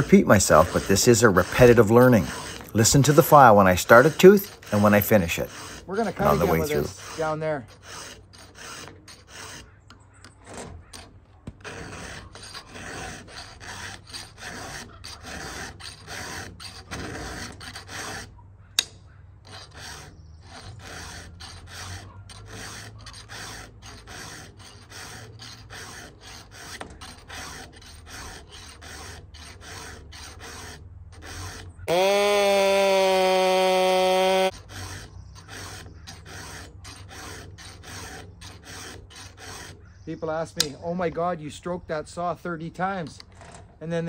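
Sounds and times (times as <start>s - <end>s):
file rasping on saw chain: 0.0s - 40.0s.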